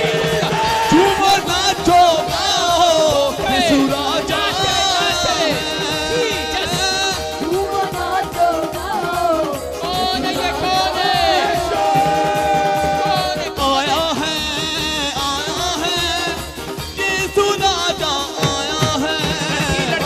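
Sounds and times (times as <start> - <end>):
music with singing: 0.0 - 20.0.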